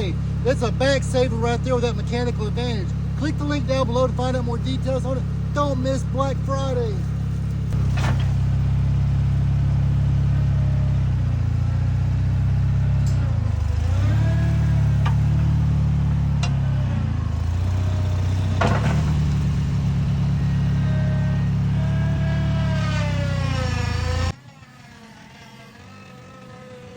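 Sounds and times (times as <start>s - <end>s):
backhoe engine running: 0.0s - 26.9s
hydraulic whine: 0.0s - 26.9s.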